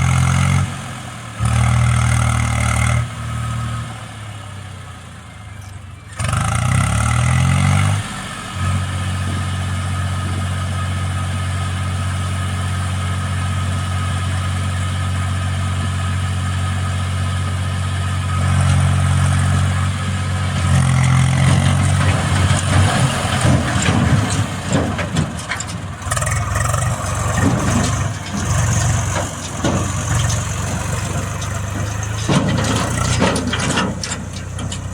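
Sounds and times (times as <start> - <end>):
diesel engine revving: 0.0 - 5.0, 6.1 - 34.9.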